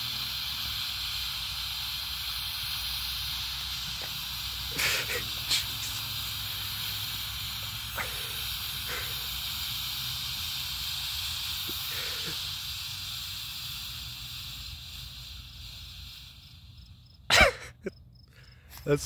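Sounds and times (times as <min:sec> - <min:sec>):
smoke bomb hissing: 0:00.0 - 0:17.8.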